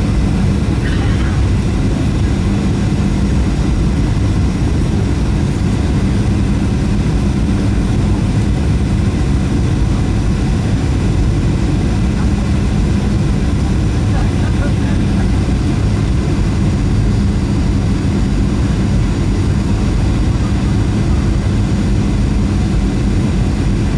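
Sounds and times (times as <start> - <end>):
jet engines droning in cabin: 0.0 - 23.9.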